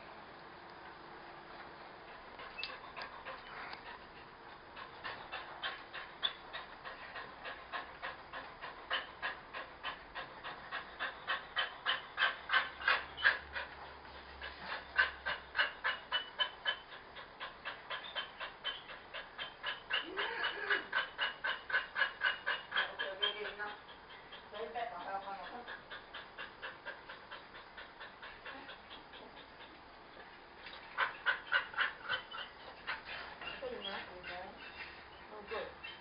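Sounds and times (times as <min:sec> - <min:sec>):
large dog panting: 0:02.0 - 0:36.0.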